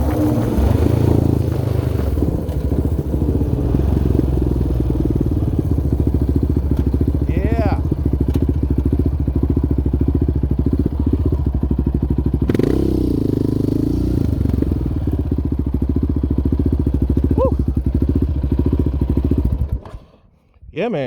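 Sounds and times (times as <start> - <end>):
single-cylinder engine running: 0.0 - 20.2.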